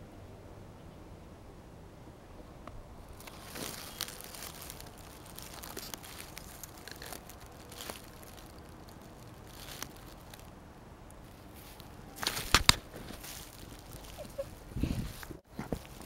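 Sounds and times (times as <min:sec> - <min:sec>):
dry grass rustling and crackling: 0:02.6 - 0:16.0.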